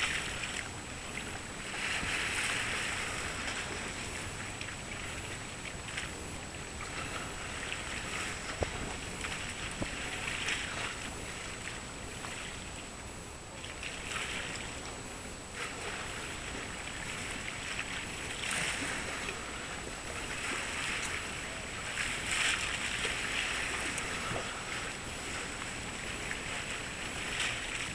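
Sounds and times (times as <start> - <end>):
water lapping and splashing: 0.0 - 27.9.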